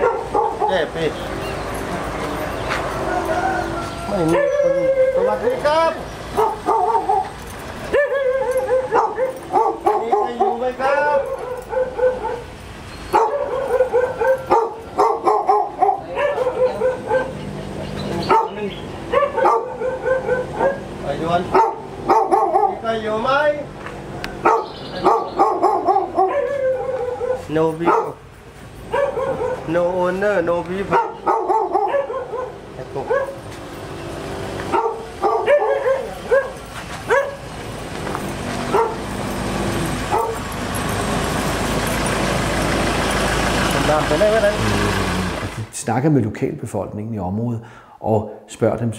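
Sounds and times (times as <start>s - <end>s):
dogs barking: 0.0s - 23.4s, 24.3s - 42.8s
steady engine hum: 0.0s - 45.8s.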